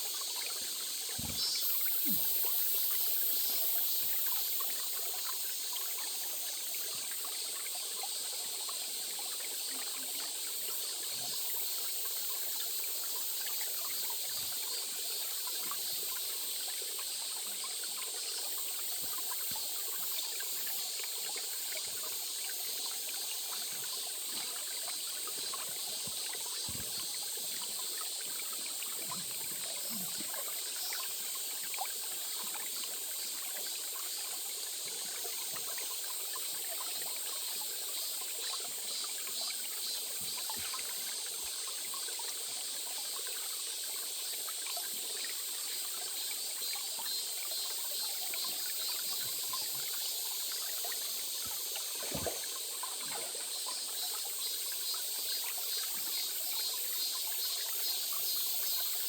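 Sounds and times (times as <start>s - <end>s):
small stream trickling: 0.0s - 59.0s.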